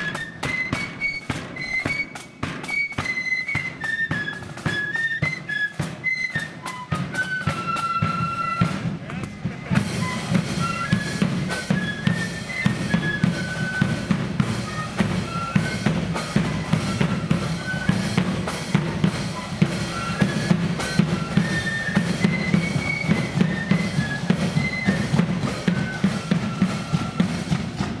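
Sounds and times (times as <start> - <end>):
flutes playing melody: 0.0 - 28.0
snare and bass drums: 0.0 - 28.0.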